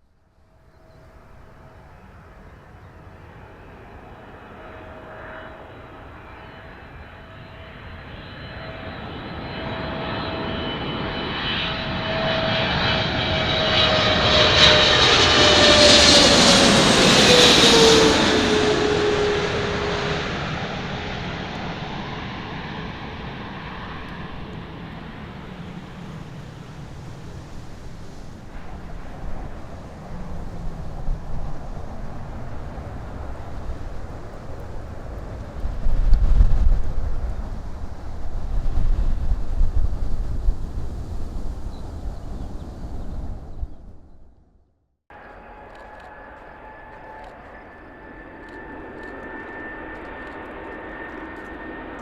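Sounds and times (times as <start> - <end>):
jet airliner passing overhead: 0.5 - 44.2, 45.1 - 52.0.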